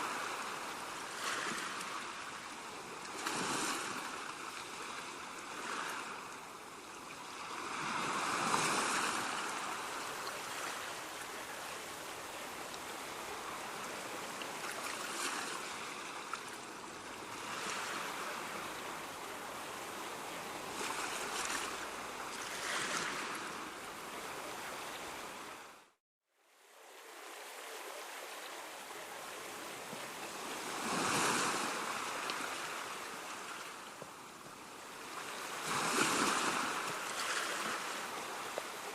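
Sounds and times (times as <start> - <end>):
ocean waves breaking on shore: 0.0 - 26.0, 26.7 - 38.9.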